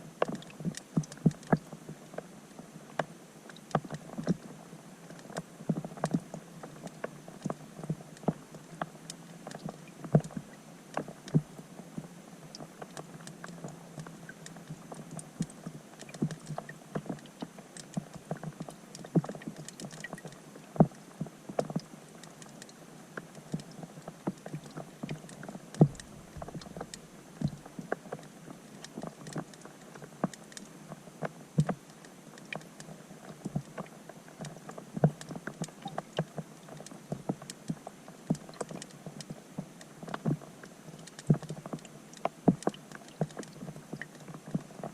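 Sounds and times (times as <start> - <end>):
rain heard underwater: 0.0 - 44.9.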